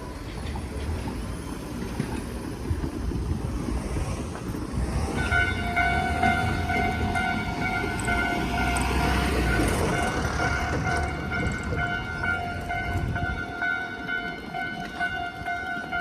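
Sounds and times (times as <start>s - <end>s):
train low rumble: 0.0s - 16.0s.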